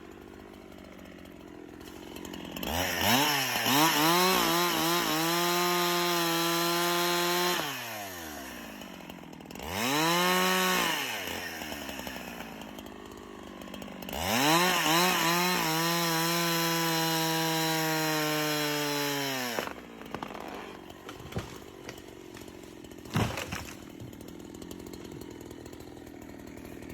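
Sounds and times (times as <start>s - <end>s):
power tool motor revving: 0.0s - 26.9s.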